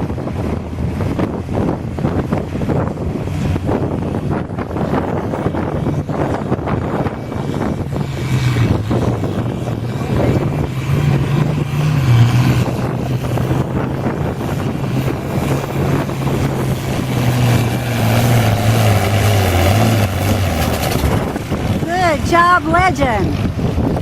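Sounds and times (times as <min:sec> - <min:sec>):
tractor engine running under load: 0:00.0 - 0:24.0.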